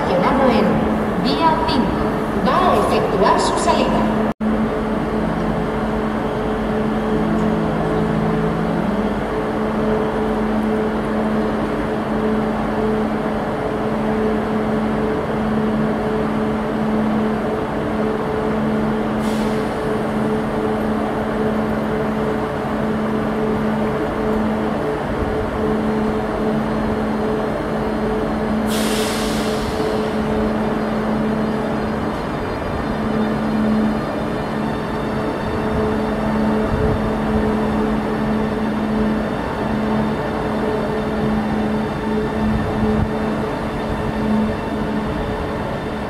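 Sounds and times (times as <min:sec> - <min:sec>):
passenger train moving slowly: 0:00.0 - 0:46.0.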